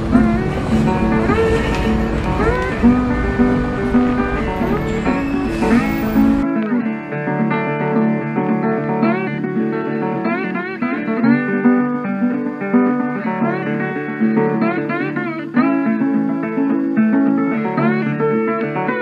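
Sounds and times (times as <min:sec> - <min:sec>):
guitar plucked sliding notes: 0:00.0 - 0:19.0.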